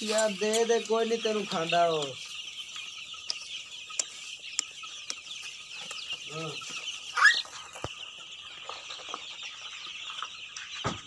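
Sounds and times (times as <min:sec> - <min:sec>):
chicks peeping: 0:00.0 - 0:11.0
loud chick chirp: 0:00.0 - 0:11.0.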